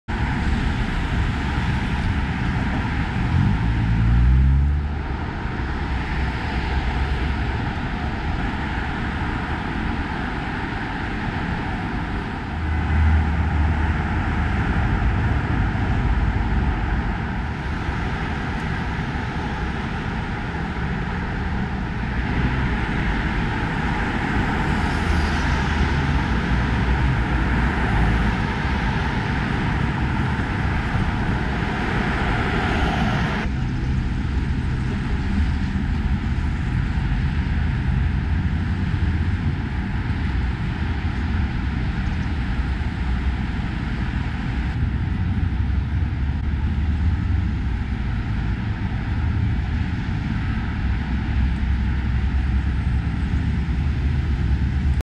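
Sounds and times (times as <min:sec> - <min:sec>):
deep vehicle rumble: 0:00.0 - 0:55.0
heavy traffic: 0:00.0 - 0:55.0
vehicle engine accelerating: 0:00.1 - 0:10.6, 0:11.3 - 0:55.0.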